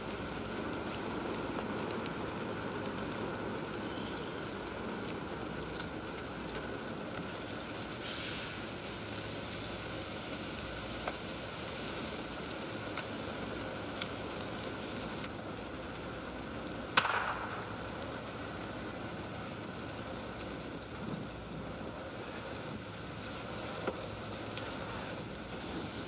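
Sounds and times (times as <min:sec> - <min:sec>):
building fire rushing: 0:00.0 - 0:26.0
fire cracking and popping: 0:00.0 - 0:26.0.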